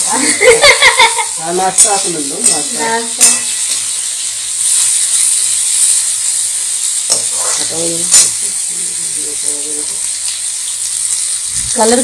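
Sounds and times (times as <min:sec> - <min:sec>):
vegetables sizzling in a pan: 0:00.0 - 0:12.0
metal spatula scraping a pan: 0:01.4 - 0:11.3.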